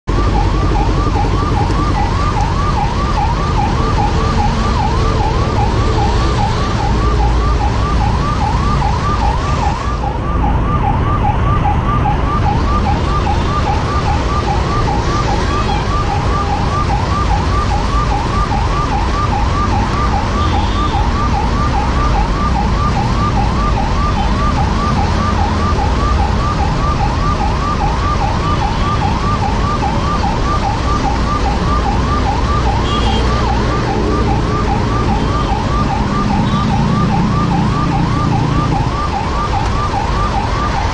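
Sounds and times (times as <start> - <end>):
ambulance siren: 0.0 - 40.9
engines rumbling in traffic: 0.0 - 40.9.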